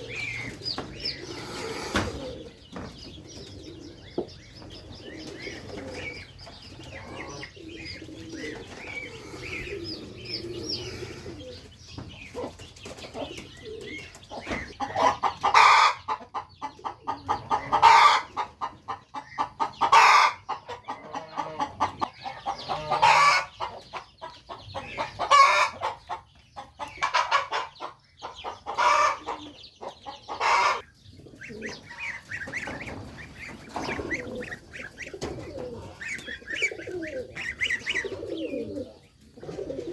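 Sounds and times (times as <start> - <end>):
harsh pulsing poultry calls: 0.0 - 4.0, 5.0 - 11.7, 14.3 - 39.9
faint high peeping: 0.0 - 39.9.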